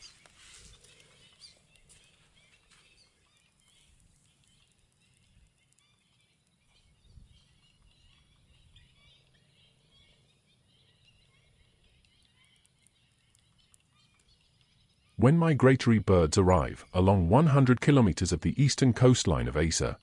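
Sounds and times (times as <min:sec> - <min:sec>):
distant birds chirping: 0:00.0 - 0:20.0.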